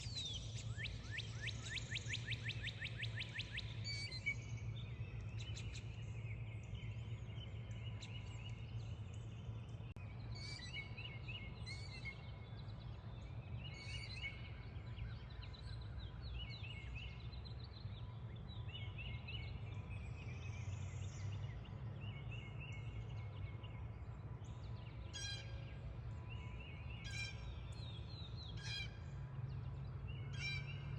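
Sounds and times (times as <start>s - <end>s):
birds singing: 0.0s - 30.9s.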